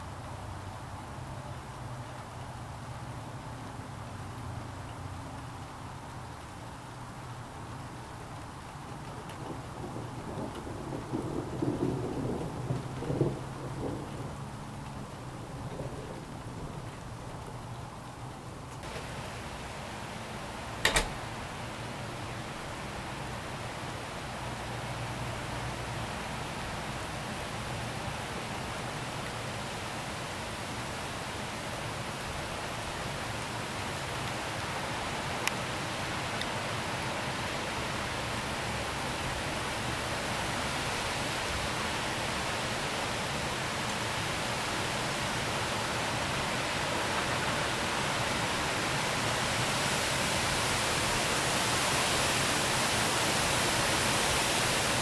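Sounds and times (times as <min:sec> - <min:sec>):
heavy rain falling: 0:00.1 - 0:55.0.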